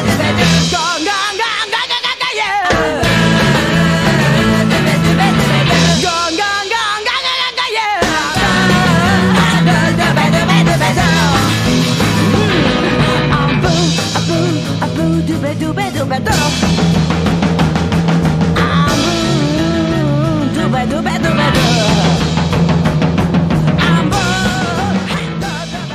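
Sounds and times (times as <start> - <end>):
rock music with vocals: 0.0 - 25.9.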